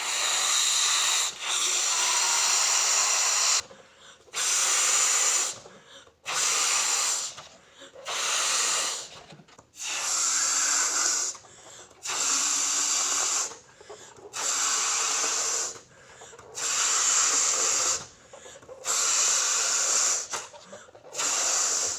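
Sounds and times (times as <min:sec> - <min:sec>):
breaths blowing up balloon: 0:00.0 - 0:03.6, 0:04.4 - 0:09.2, 0:09.8 - 0:21.9.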